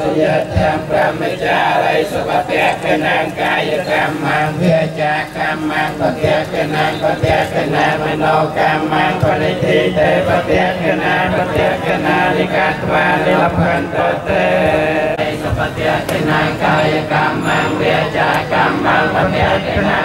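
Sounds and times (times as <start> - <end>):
monks chanting in unison: 0.0 - 20.0.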